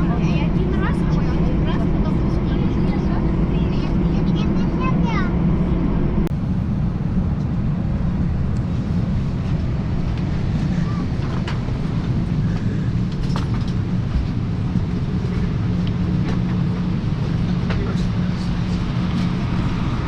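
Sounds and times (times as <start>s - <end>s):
vehicle interior rumble: 0.0s - 20.0s.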